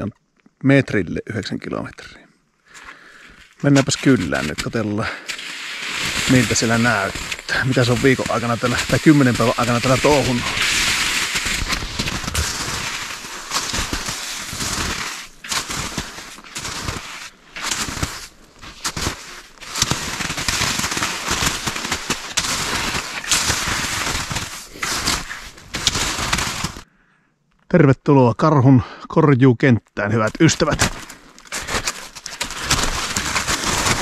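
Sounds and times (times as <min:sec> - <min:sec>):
twigs crackling underfoot: 0:02.6 - 0:26.8, 0:30.0 - 0:34.0
footsteps through undergrowth: 0:02.7 - 0:26.8, 0:30.2 - 0:34.0.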